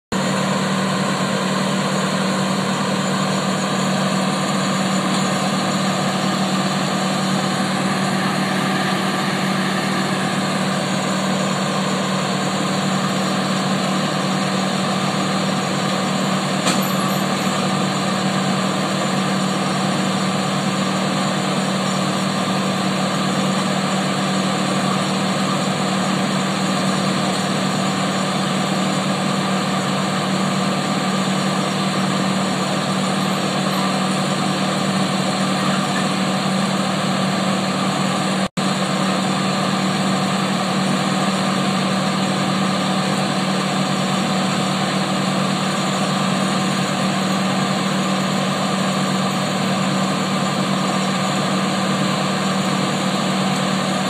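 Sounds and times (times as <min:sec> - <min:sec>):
wood chipper engine running: 0:00.1 - 0:54.0.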